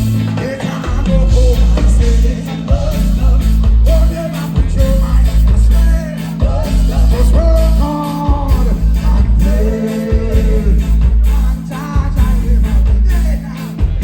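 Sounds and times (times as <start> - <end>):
heavy bass: 0.0 - 14.0
live reggae band playing: 0.0 - 14.0
person singing: 0.0 - 14.0
steady drum beat: 0.0 - 14.0.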